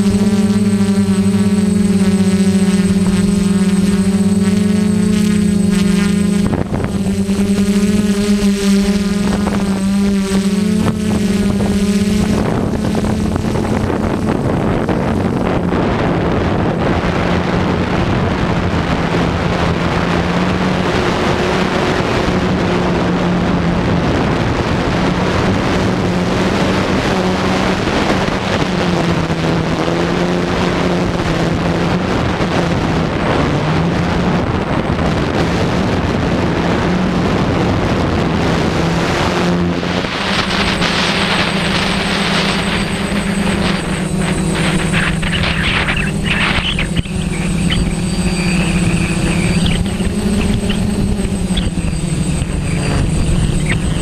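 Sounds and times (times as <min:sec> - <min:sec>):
drone propellers buzzing: 0:00.0 - 0:54.0
wind on microphone: 0:00.0 - 0:54.0.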